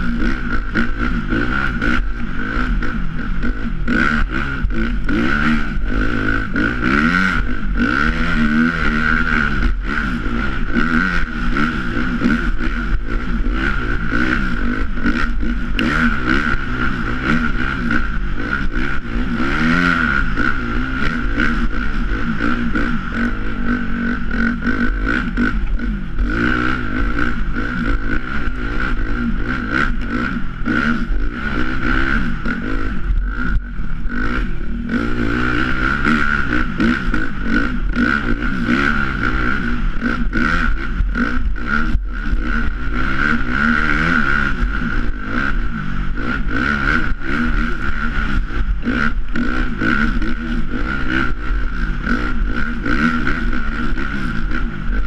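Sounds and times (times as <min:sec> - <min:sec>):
clatter and buffeting: 0:00.0 - 0:55.0
dirt bike engine running: 0:00.0 - 0:55.0.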